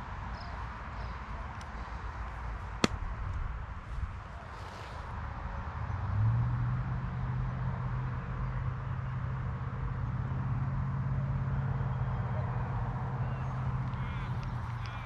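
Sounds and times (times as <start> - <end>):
faint outdoor noise: 0.0 - 15.0
low engine hum: 0.0 - 15.0.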